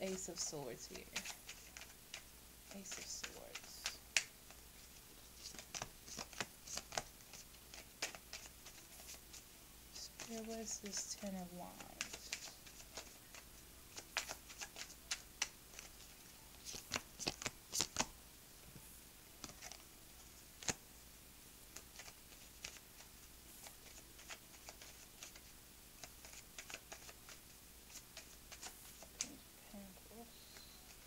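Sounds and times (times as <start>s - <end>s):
cards being shuffled: 0.1s - 18.2s, 19.4s - 20.8s, 21.7s - 29.4s.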